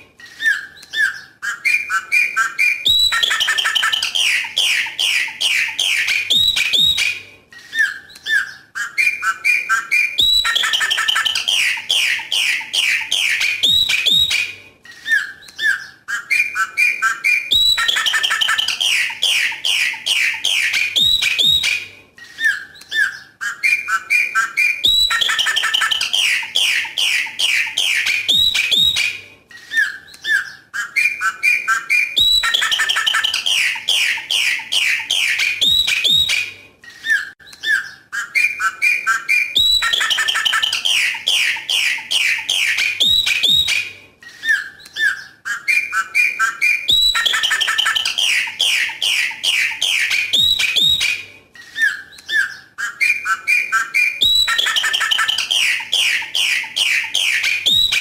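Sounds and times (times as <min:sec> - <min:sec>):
blackbird singing: 0:00.2 - 0:58.0.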